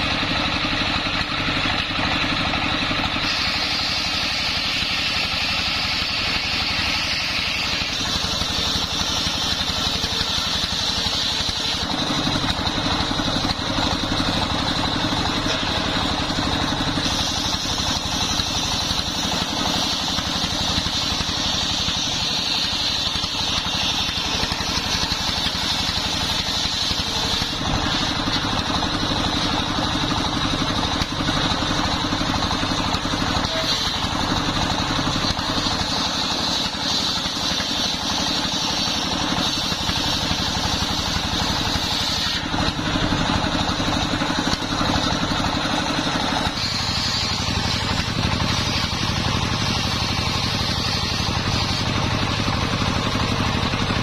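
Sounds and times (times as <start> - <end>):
diesel engine running: 0.0 - 54.0
saw blade whining through wood: 0.0 - 54.0.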